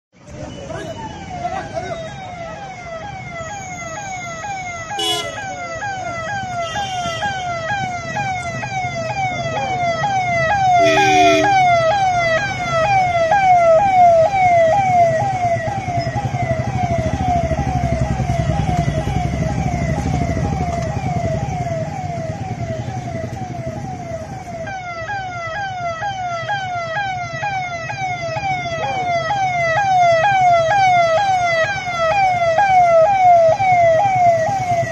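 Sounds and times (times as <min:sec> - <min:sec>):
vehicle engines rumbling: 0:00.2 - 0:34.9
police siren wailing: 0:00.3 - 0:34.9.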